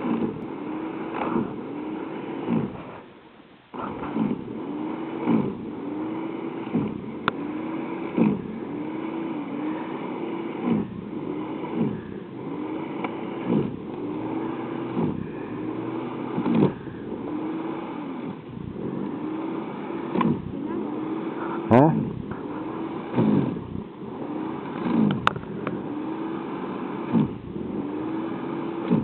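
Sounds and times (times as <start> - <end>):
snow thrower motor running: 0.0 - 29.0.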